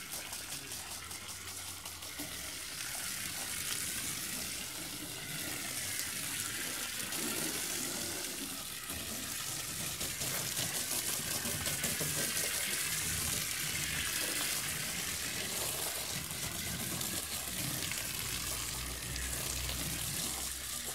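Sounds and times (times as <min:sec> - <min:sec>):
hose water splashing on car: 0:00.0 - 0:20.9.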